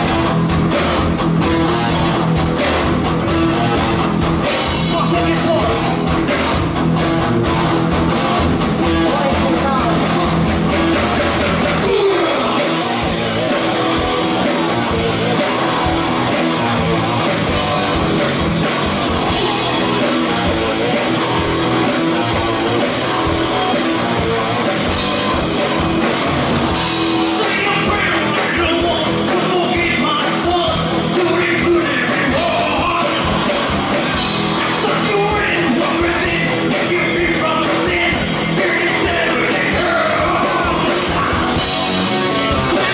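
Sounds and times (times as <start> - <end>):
bass guitar: 0.0 - 42.9
drum kit: 0.0 - 42.9
electric guitars: 0.0 - 42.9
people singing and shouting: 4.5 - 42.9.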